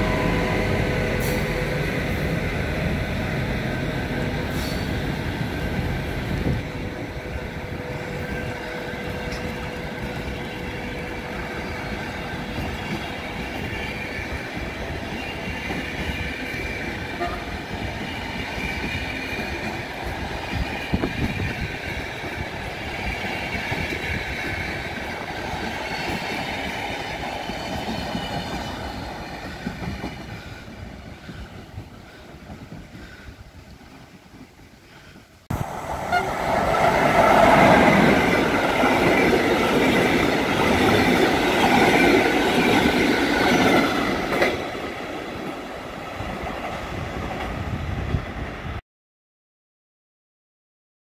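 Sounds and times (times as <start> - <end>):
train rumbling on rails: 0.0 - 48.8.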